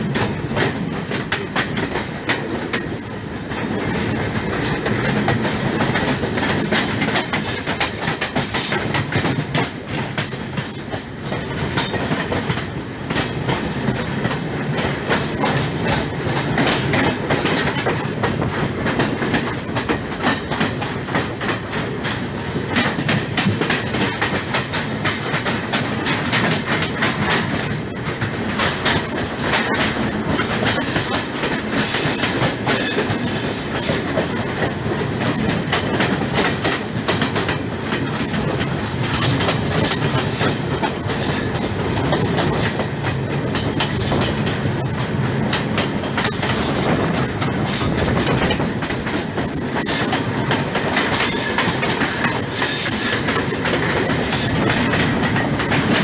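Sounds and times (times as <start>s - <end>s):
passing train: 0.0s - 56.0s
train wheels clattering over rails: 0.0s - 56.0s.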